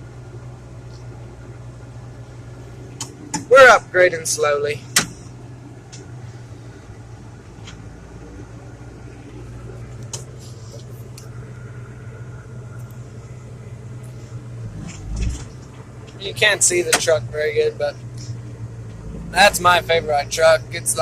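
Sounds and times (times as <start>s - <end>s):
tractor engine from inside cab: 0.0s - 21.0s.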